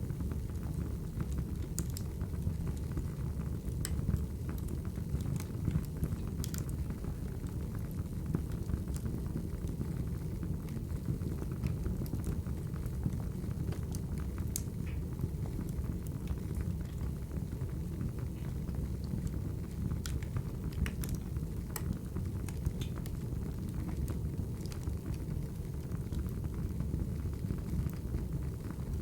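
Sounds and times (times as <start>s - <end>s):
burning logs rumbling: 0.0s - 29.0s
wood fire crackling: 0.0s - 29.0s.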